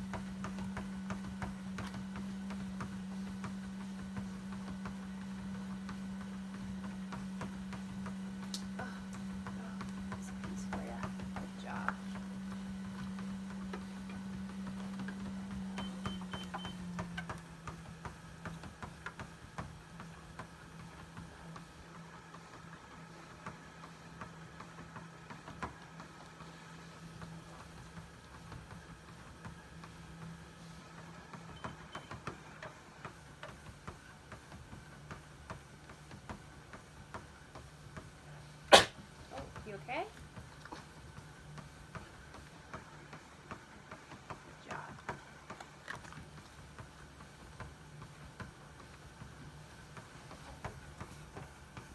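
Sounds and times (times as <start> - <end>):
treadmill motor humming: 0.0 - 51.9.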